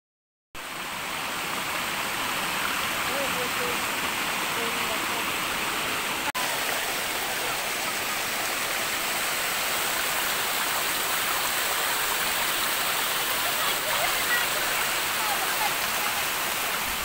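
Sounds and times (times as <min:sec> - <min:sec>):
stream rushing over rocks: 0:00.6 - 0:17.0.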